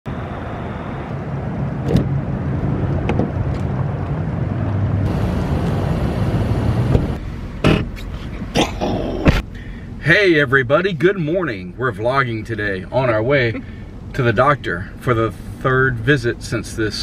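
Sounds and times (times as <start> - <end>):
car rumble: 0.1 - 17.0.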